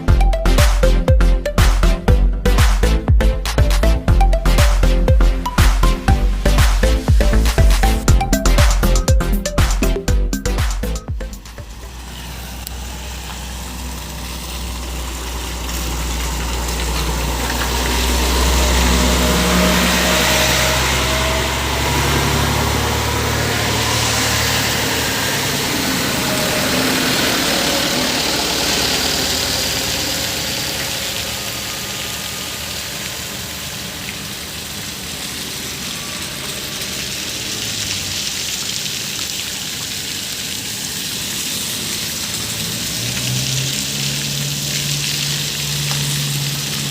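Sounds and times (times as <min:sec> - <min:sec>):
heavy vehicle engine running: 0:00.0 - 0:37.8
tyres hissing on wet road: 0:04.8 - 0:08.2, 0:09.8 - 0:46.9.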